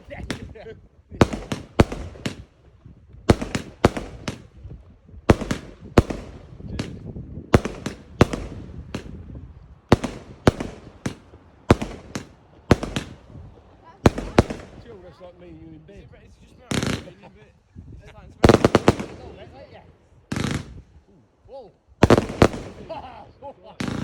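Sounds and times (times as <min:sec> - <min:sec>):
fireworks bangs: 0:00.0 - 0:15.1, 0:16.5 - 0:17.3, 0:18.4 - 0:20.9, 0:22.0 - 0:24.0
fireworks crackling hiss: 0:00.0 - 0:15.4, 0:16.4 - 0:24.0.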